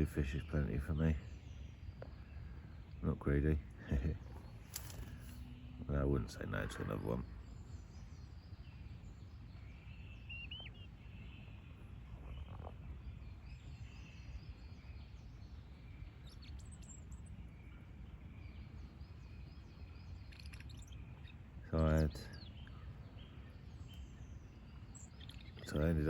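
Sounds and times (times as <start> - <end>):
low outdoor rumble: 0.0 - 26.0
small birds chirping: 0.0 - 26.0.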